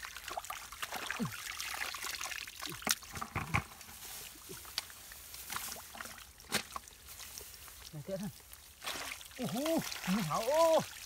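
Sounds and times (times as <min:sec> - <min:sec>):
hands squelching wet mud: 0:00.0 - 0:03.2, 0:03.9 - 0:11.0
water trickling: 0:00.0 - 0:11.0.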